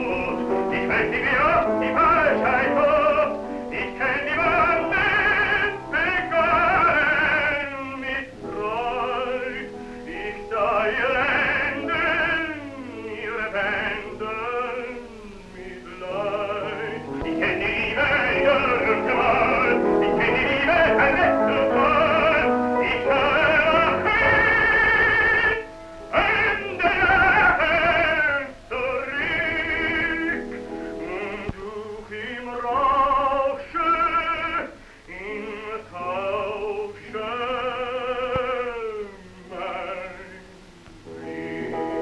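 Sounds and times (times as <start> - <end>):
piano accompaniment: 0.0 - 42.0
tenor singing opera: 0.0 - 42.0.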